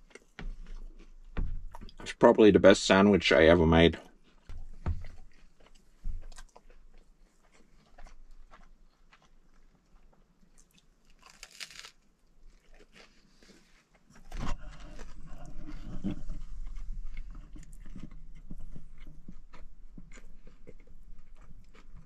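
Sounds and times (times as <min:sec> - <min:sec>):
person chewing and crunching: 0:00.0 - 0:02.0, 0:04.0 - 0:22.0.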